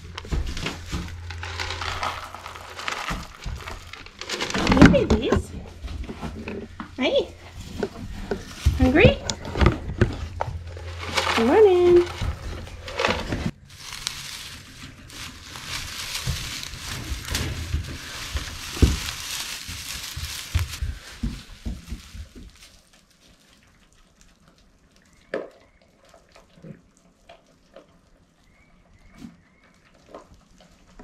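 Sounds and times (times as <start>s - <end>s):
straw rustling and crunching: 0.0s - 25.1s.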